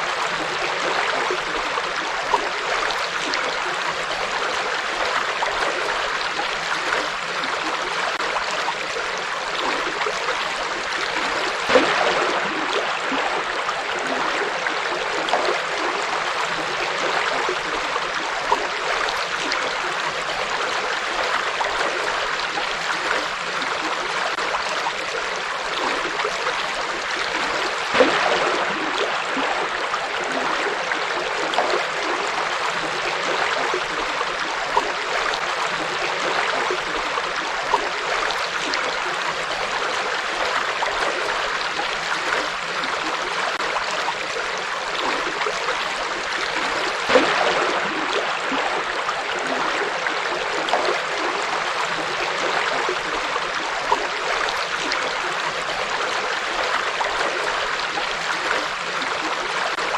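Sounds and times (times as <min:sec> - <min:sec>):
water splashes: 0:00.0 - 0:59.9.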